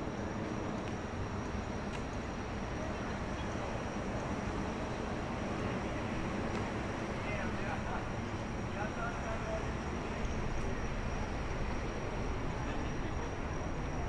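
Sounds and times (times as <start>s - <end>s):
distant traffic hum: 0.0s - 14.0s
faint voices of passers-by: 0.0s - 14.0s.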